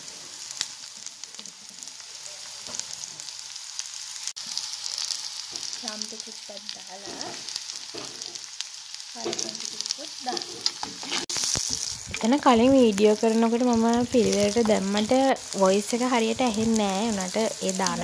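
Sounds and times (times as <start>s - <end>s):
hot oil sizzling and popping: 0.0s - 18.0s.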